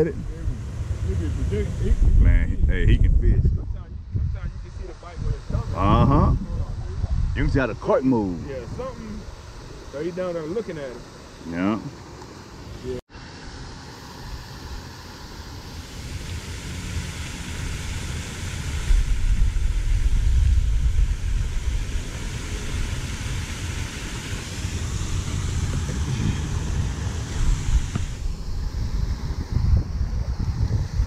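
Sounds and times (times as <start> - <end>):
wind buffeting microphone: 0.0 - 11.1, 16.0 - 31.0.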